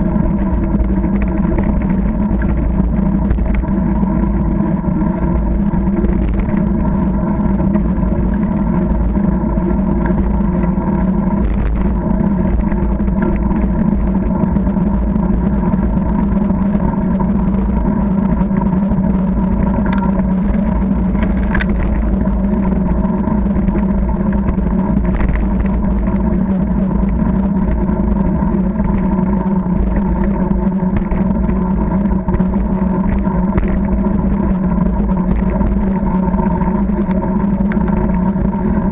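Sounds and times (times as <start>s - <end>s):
steady hum: 0.0s - 38.9s
wind rumble: 0.0s - 38.9s.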